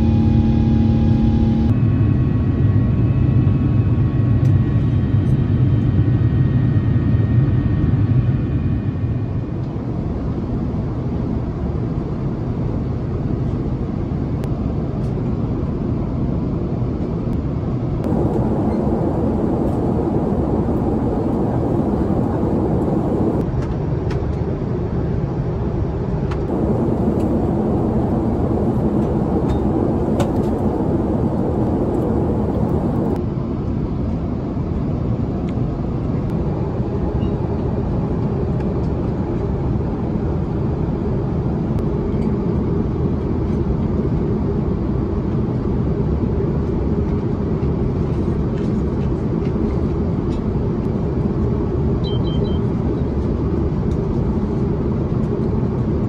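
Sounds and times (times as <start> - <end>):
airplane cabin engine roar: 0.0 - 56.0.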